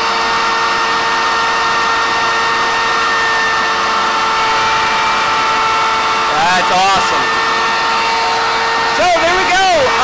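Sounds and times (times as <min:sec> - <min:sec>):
router motor cutting plastic: 0:00.0 - 0:10.0.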